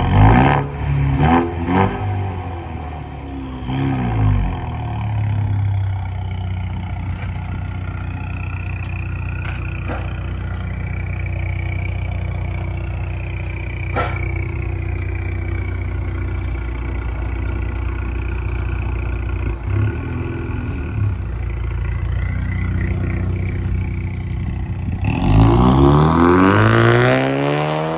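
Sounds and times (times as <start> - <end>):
car engine idling: 0.0 - 26.7.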